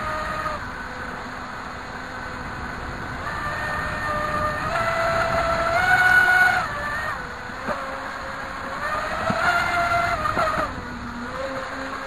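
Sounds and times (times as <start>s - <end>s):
electric motor whining: 0.0s - 12.0s
rushing water: 0.0s - 12.0s.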